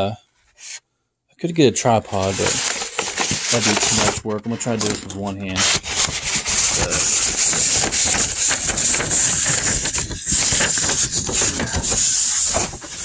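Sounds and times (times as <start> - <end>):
paper poster rustling: 1.6 - 13.0.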